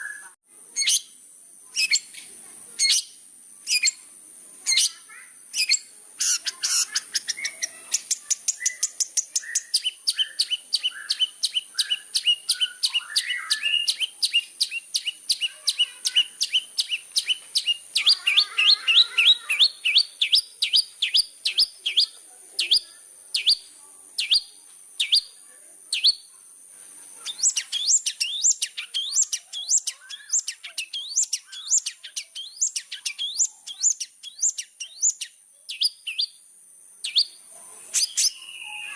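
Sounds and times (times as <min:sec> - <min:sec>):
bird singing high sharp notes: 0:04.7 - 0:26.3, 0:27.2 - 0:36.4, 0:37.0 - 0:37.4, 0:38.0 - 0:38.9.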